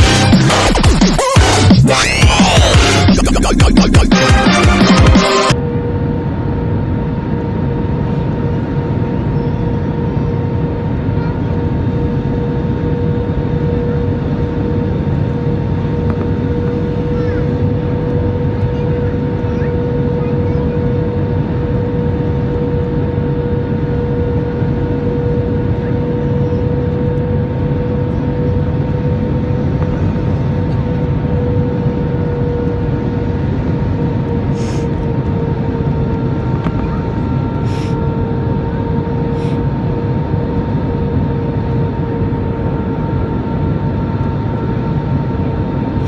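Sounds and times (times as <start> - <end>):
engine whine: 0.0 - 46.0
jet engine roar: 0.0 - 46.0.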